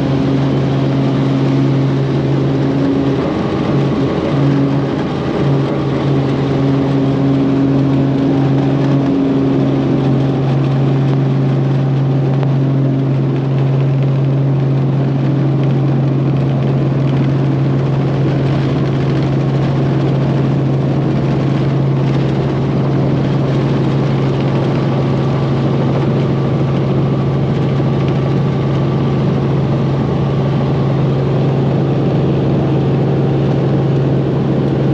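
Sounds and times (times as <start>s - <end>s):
helicopter engine and rotors: 0.0s - 34.9s
strong low hum: 0.0s - 34.9s.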